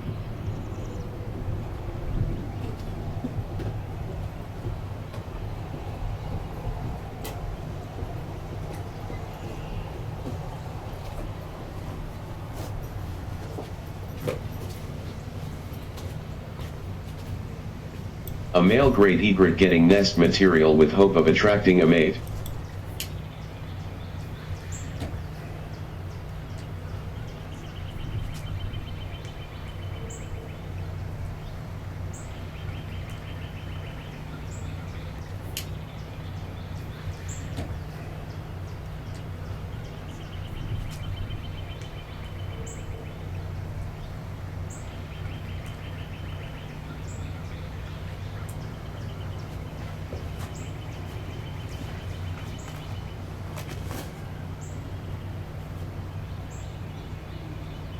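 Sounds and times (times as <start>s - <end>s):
steady low rumble: 0.0s - 57.9s.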